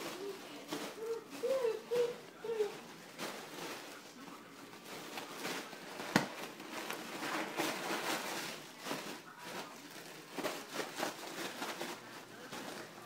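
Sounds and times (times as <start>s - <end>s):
toys knocking and rustling: 0.0s - 13.0s.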